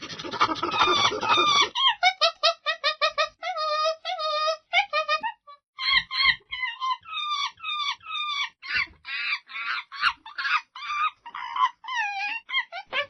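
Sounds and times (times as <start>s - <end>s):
monkey calls: 0.0s - 13.0s.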